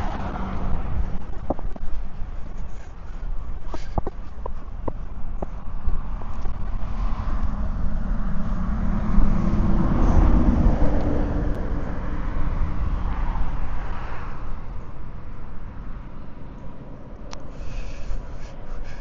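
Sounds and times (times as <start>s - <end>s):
motor vehicle passing by: 0.0s - 19.0s.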